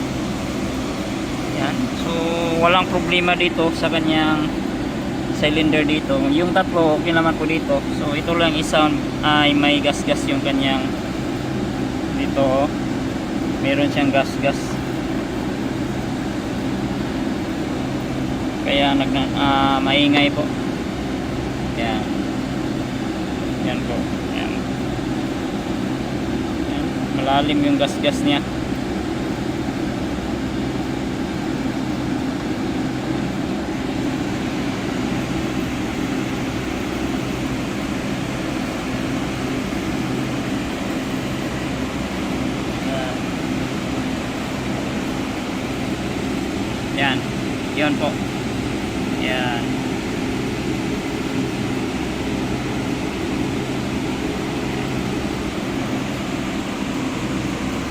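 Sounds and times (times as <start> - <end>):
steady mechanical hum: 0.0 - 57.9.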